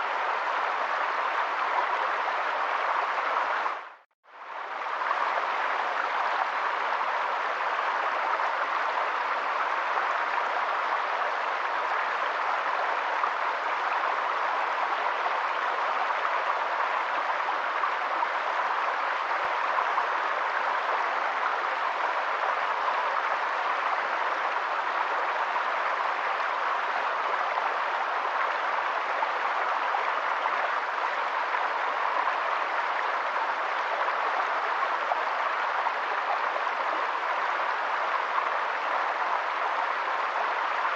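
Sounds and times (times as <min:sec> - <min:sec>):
steady water wash: 0:00.0 - 0:40.9.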